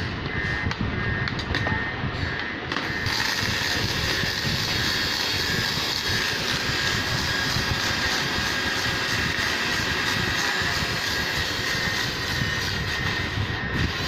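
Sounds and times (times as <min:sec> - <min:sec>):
toy helicopter motors whining: 0:02.7 - 0:14.0.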